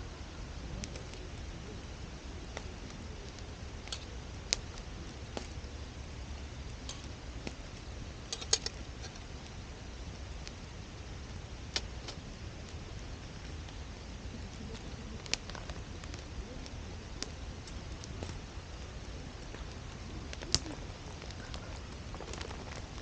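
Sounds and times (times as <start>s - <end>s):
low steady rumble: 0.0s - 23.0s
wood fire crackling and popping: 0.0s - 23.0s.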